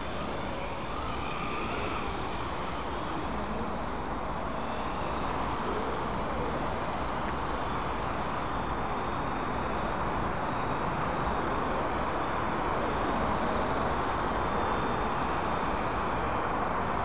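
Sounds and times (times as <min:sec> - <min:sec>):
outdoor ambience rushing noise: 0:00.0 - 0:17.0.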